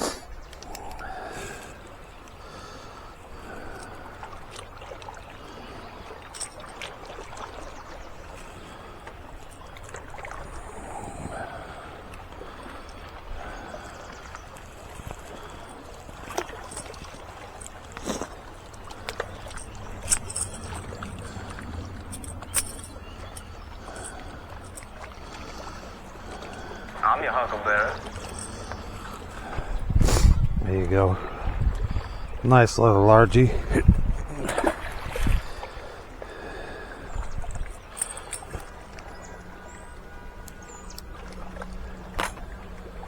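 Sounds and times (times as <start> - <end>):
water lapping and splashing: 0.0 - 43.0.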